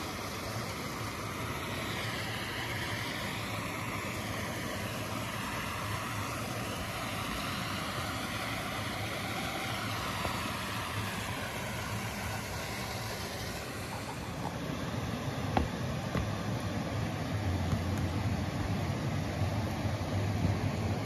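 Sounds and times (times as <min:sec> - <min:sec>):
water rushing over boulders: 0:00.0 - 0:21.0.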